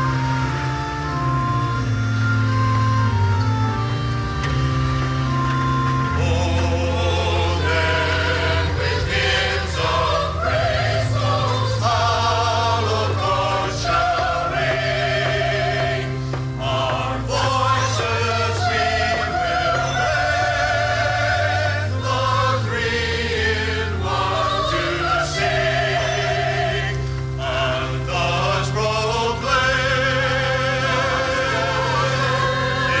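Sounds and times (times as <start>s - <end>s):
sustained low bass notes: 0.0s - 33.0s
choir singing slow sacred piece: 5.4s - 33.0s.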